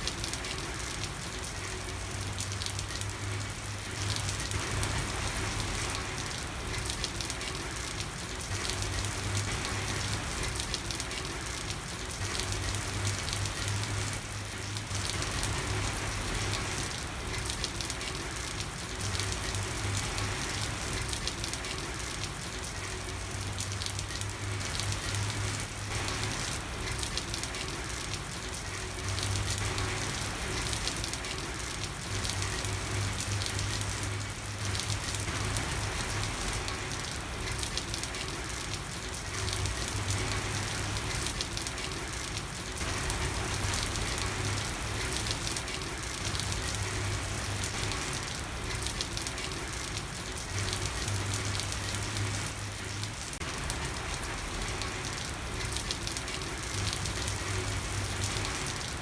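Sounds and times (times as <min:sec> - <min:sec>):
heavy rain on a street: 0:00.0 - 0:59.0.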